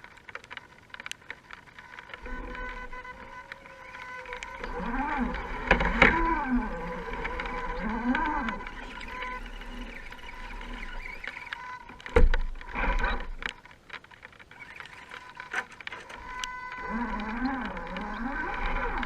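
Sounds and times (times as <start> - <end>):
rc car electric motor whining: 0.0 - 19.0.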